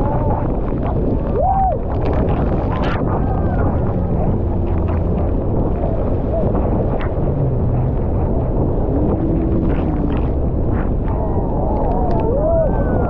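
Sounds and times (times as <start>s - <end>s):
rushing water: 0.0s - 13.0s
wind roaring on microphone: 0.0s - 13.0s.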